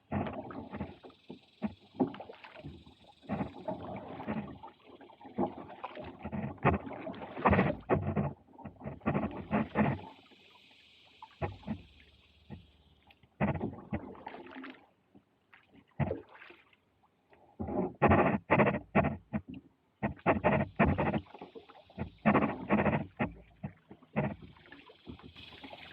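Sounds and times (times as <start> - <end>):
kayak paddle splashing water: 0.0 - 16.9, 17.6 - 25.9.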